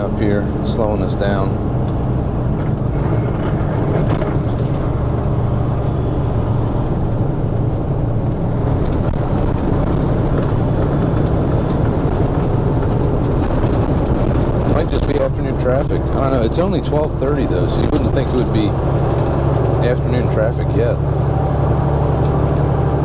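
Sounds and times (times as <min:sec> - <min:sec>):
diesel truck engine droning: 0:00.0 - 0:23.0
road noise: 0:00.0 - 0:23.0.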